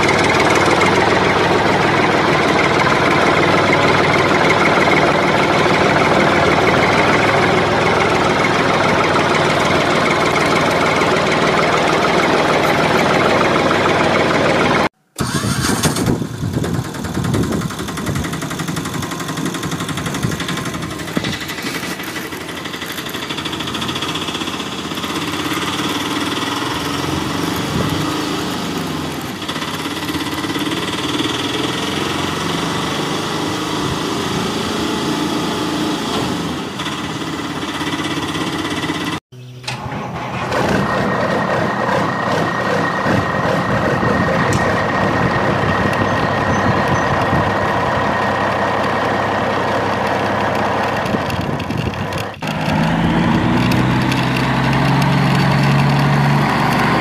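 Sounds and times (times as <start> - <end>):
small vehicle engine running: 0.0 - 57.0
truck engine with high whine: 0.0 - 57.0.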